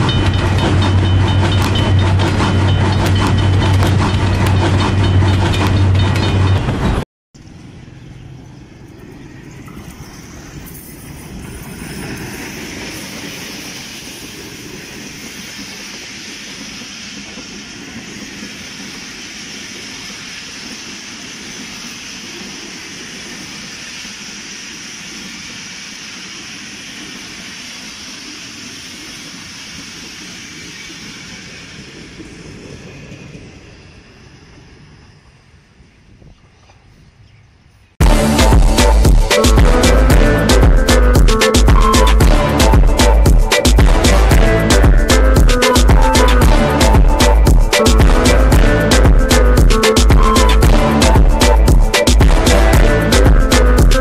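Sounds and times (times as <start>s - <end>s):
train wheels rolling on rail: 0.0s - 54.0s.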